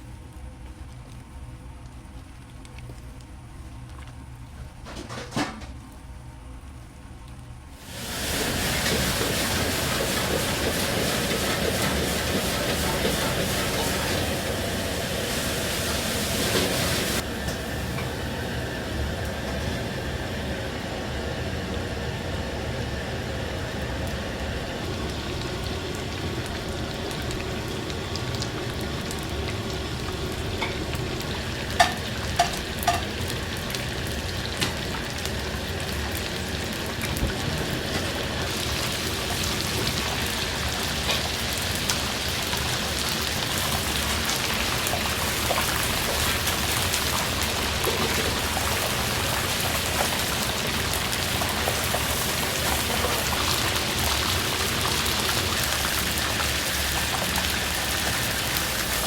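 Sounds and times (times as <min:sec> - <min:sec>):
deep-frying sizzle: 0:07.5 - 0:59.0.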